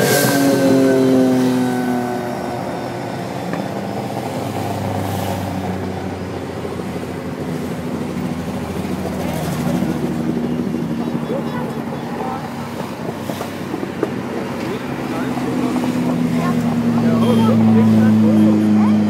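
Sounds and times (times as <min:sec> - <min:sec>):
race car engines at full throttle: 0:00.0 - 0:19.0.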